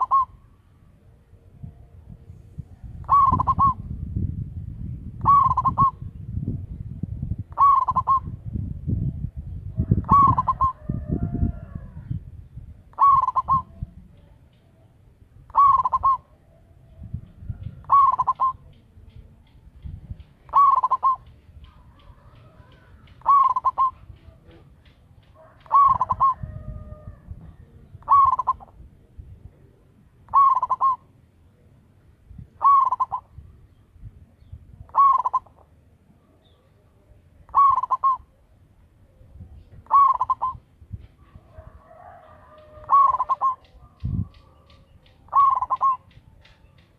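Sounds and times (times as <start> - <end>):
dove trilled cooing: 0.0 - 0.6, 1.6 - 4.1, 5.2 - 6.2, 7.3 - 12.2, 12.9 - 18.9, 20.4 - 31.7, 32.4 - 33.8, 34.4 - 36.8, 37.4 - 46.9.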